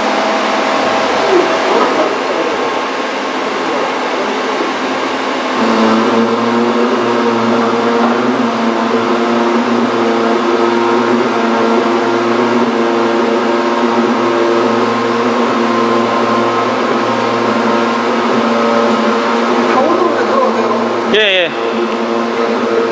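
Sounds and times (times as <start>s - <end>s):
drilling machine hum: 0.0s - 22.9s.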